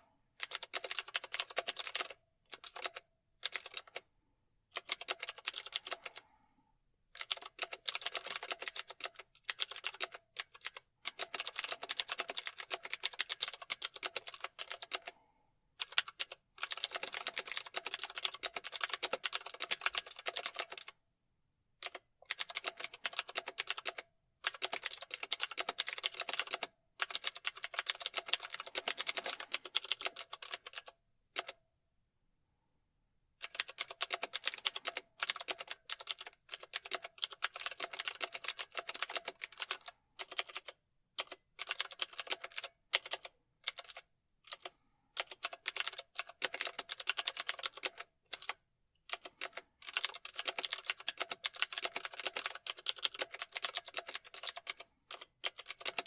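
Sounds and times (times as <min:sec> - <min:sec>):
typing on keyboard: 0:00.4 - 0:04.0, 0:04.8 - 0:06.3, 0:07.2 - 0:15.2, 0:15.8 - 0:21.0, 0:21.8 - 0:31.6, 0:33.4 - 0:56.0.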